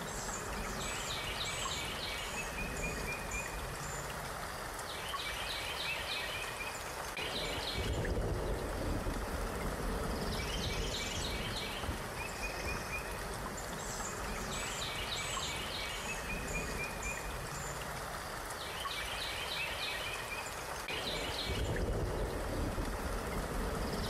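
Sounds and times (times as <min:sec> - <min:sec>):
rushing water-like noise: 0:00.0 - 0:24.0
songbird chirping: 0:00.0 - 0:24.0.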